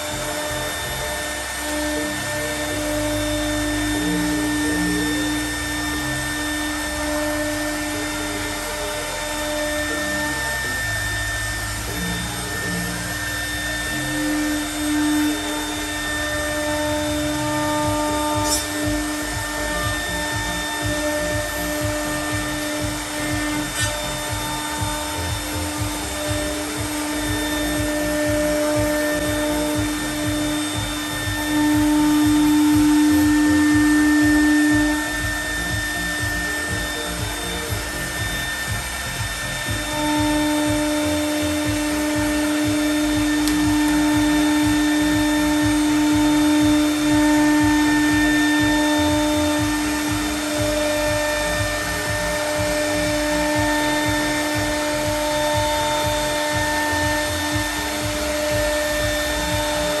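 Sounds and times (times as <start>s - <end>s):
cutting and dust extraction hiss: 0.0s - 60.0s
router spindle hum: 0.0s - 60.0s.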